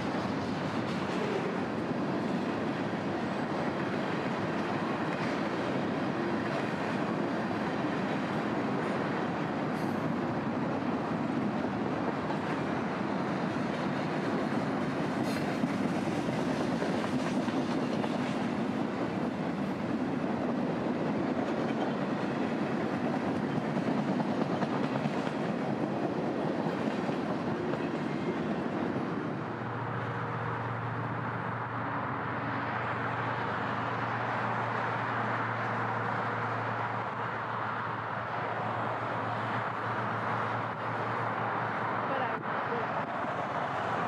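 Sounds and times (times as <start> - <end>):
steel wheels rumbling on rails: 0.0 - 44.0.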